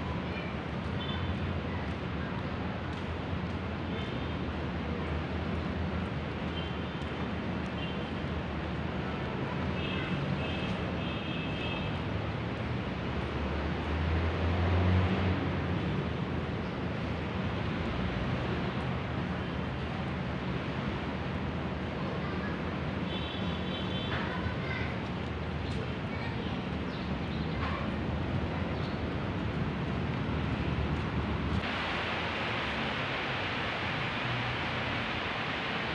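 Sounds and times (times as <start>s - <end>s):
hum of distant traffic: 0.0s - 35.9s.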